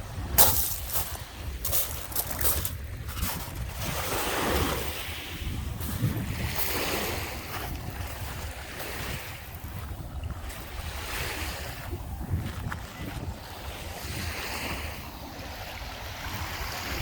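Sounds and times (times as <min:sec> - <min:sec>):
waves washing onto beach: 0:00.0 - 0:17.0
wind buffeting the microphone: 0:00.0 - 0:17.0.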